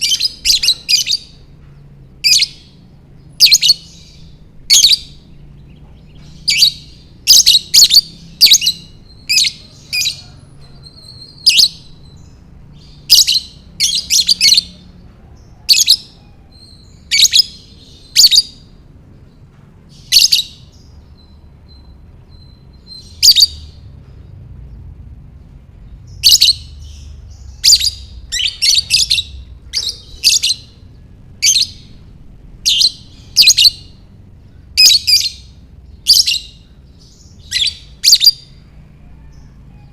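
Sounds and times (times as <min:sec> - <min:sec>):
lovebird chirping: 0:00.0 - 0:18.8, 0:19.9 - 0:24.7, 0:25.8 - 0:39.9.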